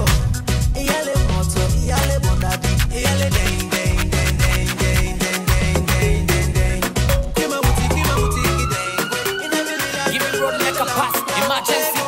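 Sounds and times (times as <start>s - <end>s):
afropop dance music: 0.0s - 12.0s.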